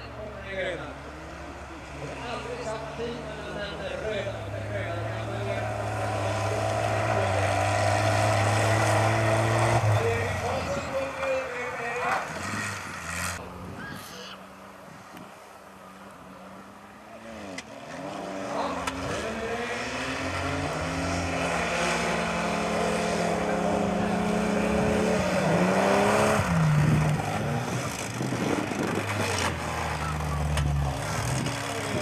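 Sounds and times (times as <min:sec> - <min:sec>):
racing engine revving: 0:00.9 - 0:13.4, 0:17.2 - 0:32.0.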